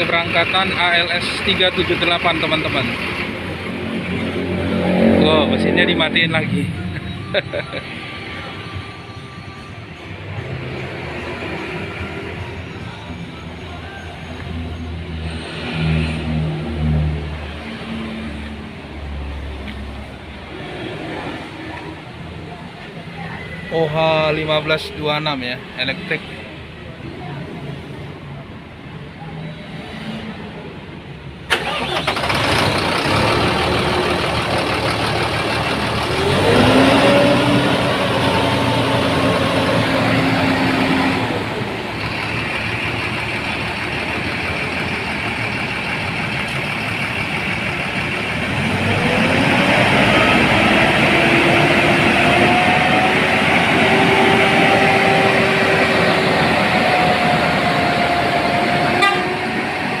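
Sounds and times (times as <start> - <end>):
diesel bus engine starting and revving: 0.0 - 22.6, 30.7 - 60.0.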